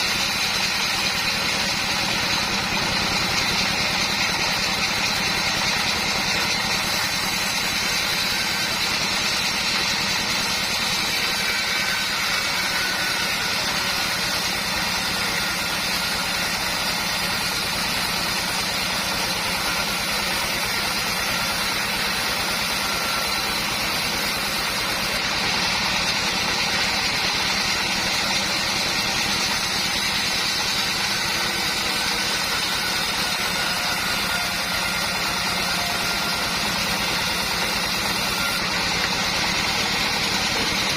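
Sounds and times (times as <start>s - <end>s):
high steady saw whine: 0.0s - 40.9s
sawmill engine hum: 0.0s - 40.9s.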